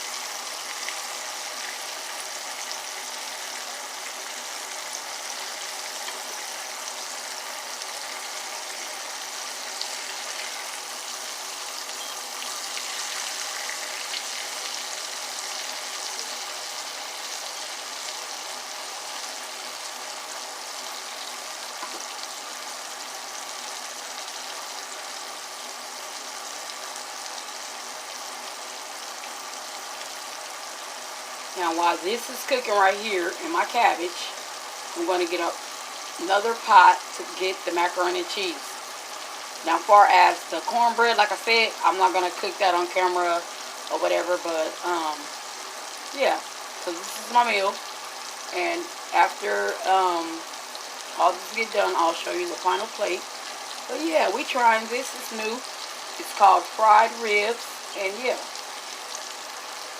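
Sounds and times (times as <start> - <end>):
kitchen exhaust fan hum: 0.0 - 59.9
ribs sizzling in hot oil: 0.0 - 59.9.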